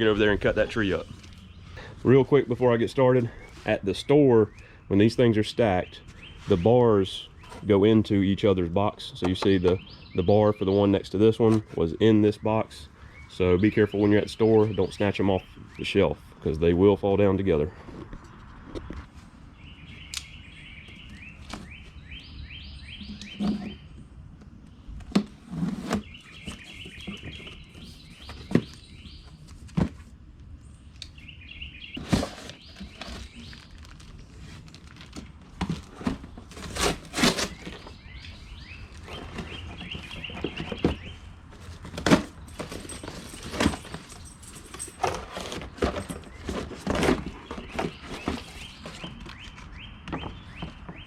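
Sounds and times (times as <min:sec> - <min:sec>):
birds chirping: 0:00.0 - 0:34.6, 0:35.2 - 0:51.0.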